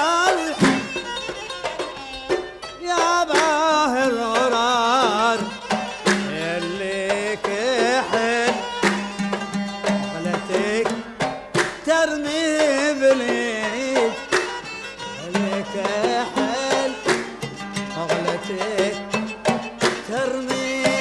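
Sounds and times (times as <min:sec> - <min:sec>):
bowed violin: 0:00.0 - 0:11.1, 0:12.6 - 0:21.0
plucked oud: 0:00.0 - 0:21.0
qanun: 0:00.0 - 0:21.0.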